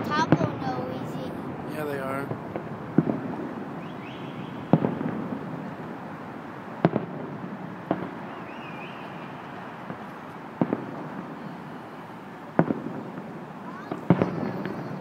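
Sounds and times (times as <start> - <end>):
firework bangs with echo: 0.0 - 15.0.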